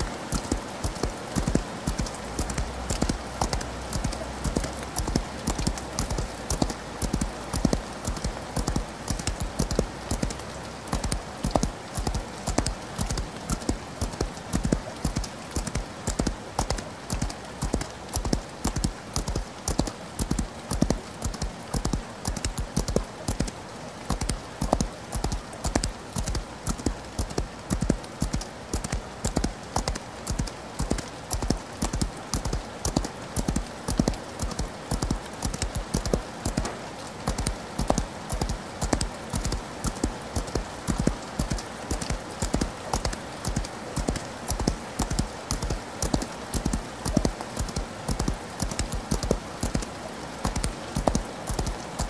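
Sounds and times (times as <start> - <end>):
horse hooves galloping: 0.0 - 49.8
rain hissing: 0.0 - 52.0.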